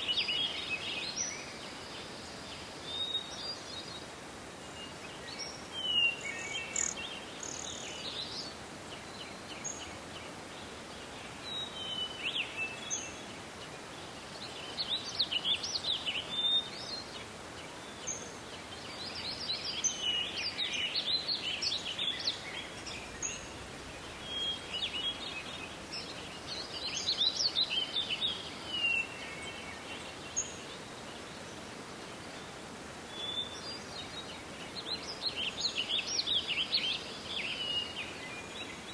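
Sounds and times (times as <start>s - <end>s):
birds chirping: 0.0s - 38.9s
steady background hiss: 0.0s - 38.9s.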